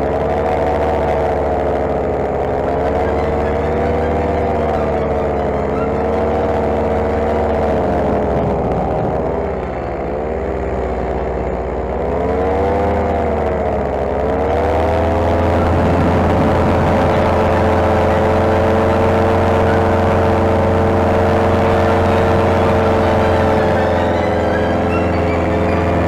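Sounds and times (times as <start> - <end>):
paramotor engine running: 0.0 - 26.0.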